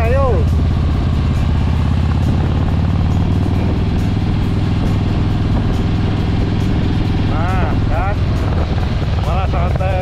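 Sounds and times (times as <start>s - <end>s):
motorcycle engine rumble: 0.0s - 10.0s.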